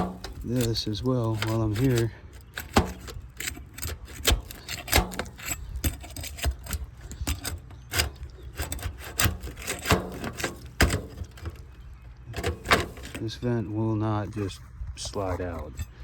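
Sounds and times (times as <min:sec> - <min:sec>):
metal vent scraping shingles: 0:00.0 - 0:16.0.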